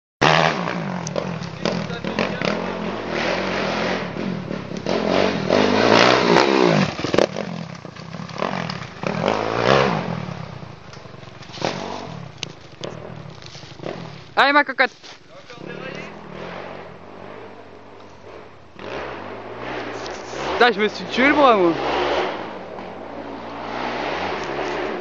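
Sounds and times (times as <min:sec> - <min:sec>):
dirt bike engine revving: 0:00.2 - 0:14.6, 0:15.5 - 0:25.0.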